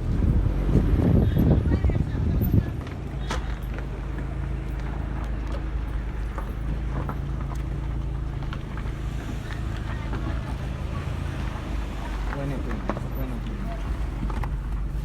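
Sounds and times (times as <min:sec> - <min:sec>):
car engine hum inside cabin: 0:00.0 - 0:15.0.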